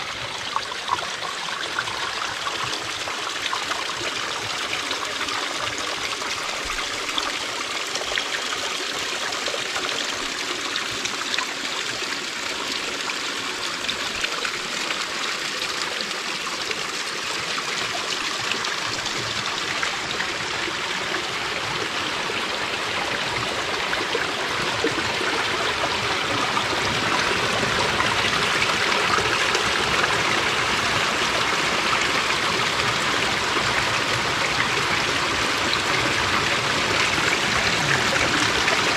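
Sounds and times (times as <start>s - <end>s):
brook trickling over rocks: 0.0s - 38.9s.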